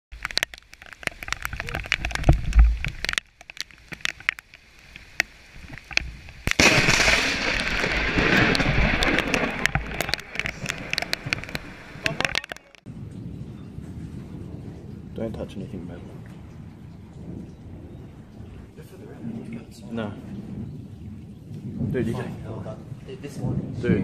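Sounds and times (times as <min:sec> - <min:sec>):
rain and wind on microphone: 0:00.1 - 0:24.0
rain ticking on camera: 0:00.1 - 0:24.0.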